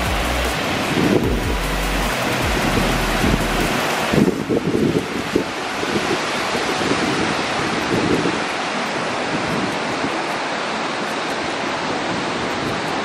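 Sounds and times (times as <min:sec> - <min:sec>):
wind buffeting microphone: 0:00.0 - 0:13.0
waves breaking on pebbles: 0:02.1 - 0:13.0.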